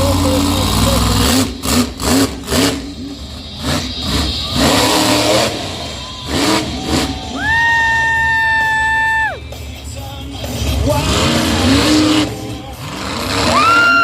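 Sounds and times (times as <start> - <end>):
monster truck engines revving: 0.0 - 14.0.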